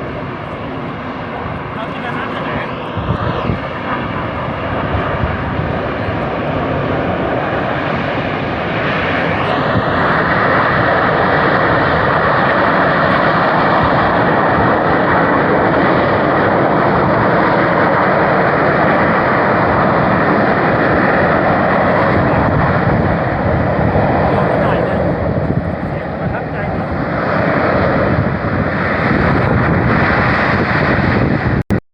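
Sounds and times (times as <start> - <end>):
volcano venting ash roar: 0.0 - 31.7.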